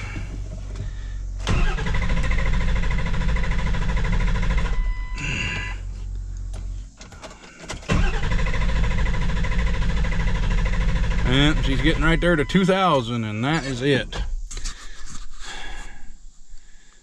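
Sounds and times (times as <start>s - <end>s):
starter cranking diesel engine: 0.0s - 5.8s, 6.5s - 14.4s.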